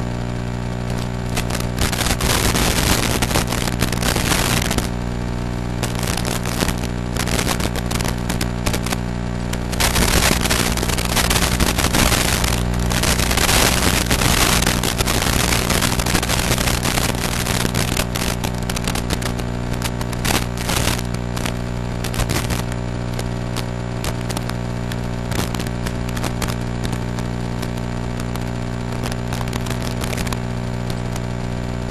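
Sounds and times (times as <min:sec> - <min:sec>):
crackling static: 0:00.0 - 0:31.9
electrical buzz: 0:00.0 - 0:31.9.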